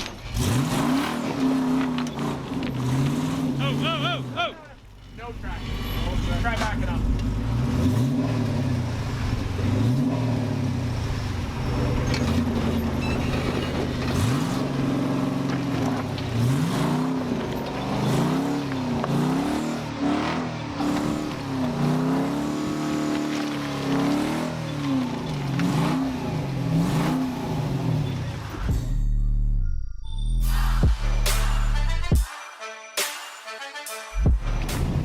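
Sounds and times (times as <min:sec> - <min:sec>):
engine revving: 0:00.0 - 0:28.9.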